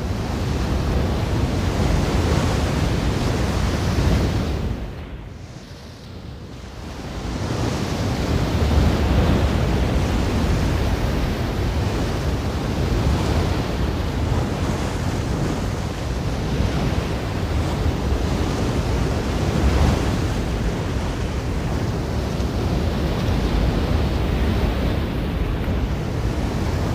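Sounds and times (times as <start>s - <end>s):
ocean waves washing in: 0.0s - 26.9s.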